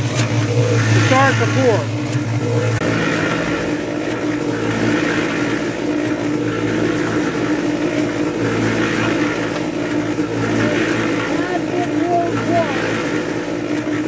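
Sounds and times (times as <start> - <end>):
cement mixer motor hum: 0.0 - 14.0
wet concrete churning in drum: 0.0 - 14.0.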